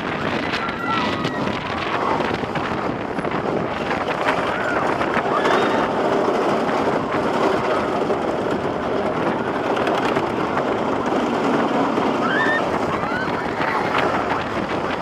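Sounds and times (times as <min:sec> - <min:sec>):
roller coaster rumbling clatter: 0:00.0 - 0:15.0.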